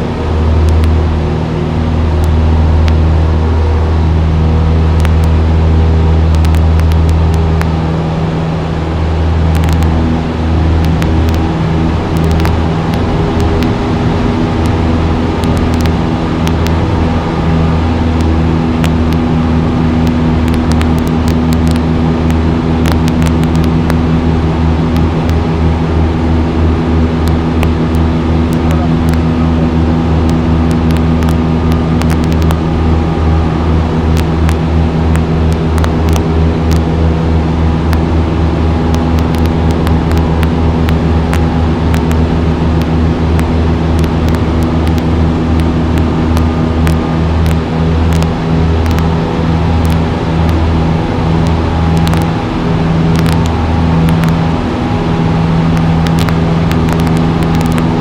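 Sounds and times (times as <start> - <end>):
light airplane engine and propeller: 0.0 - 58.0.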